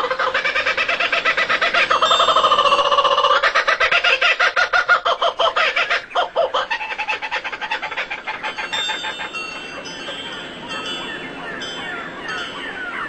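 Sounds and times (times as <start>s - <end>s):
bird chattering call: 0.0s - 13.0s.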